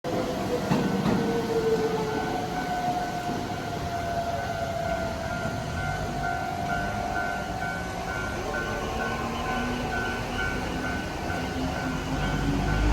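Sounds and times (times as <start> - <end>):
train rumbling past: 0.1 - 12.9
railroad crossing warning bell: 0.5 - 12.9.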